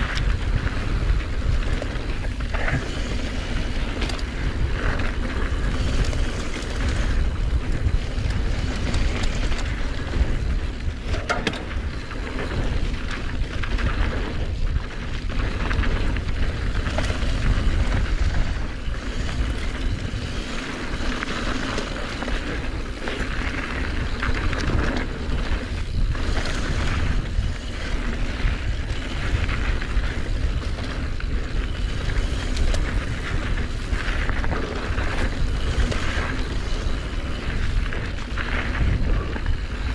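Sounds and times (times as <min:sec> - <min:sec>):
bike rattling and knocking: 0:00.0 - 0:39.9
tyres rolling on dirt: 0:00.0 - 0:39.9
wind rush on microphone: 0:00.0 - 0:39.9.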